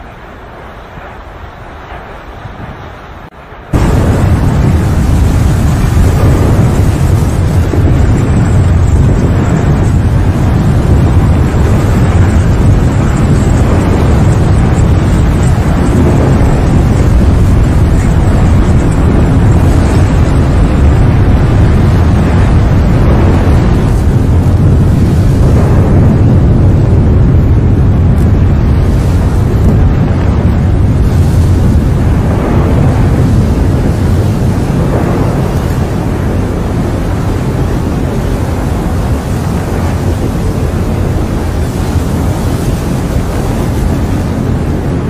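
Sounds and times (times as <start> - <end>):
low rumbling roar: 1.6 - 45.0.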